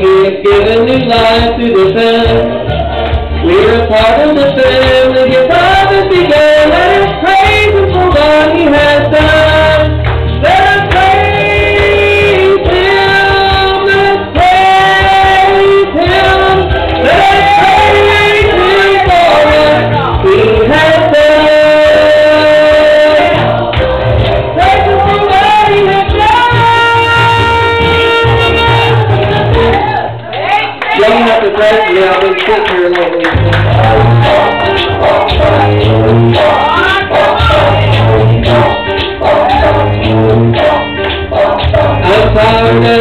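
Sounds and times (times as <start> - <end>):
man singing gospel song: 0.0 - 29.6, 31.0 - 43.0
instrumental accompaniment: 0.0 - 30.2, 33.2 - 43.0.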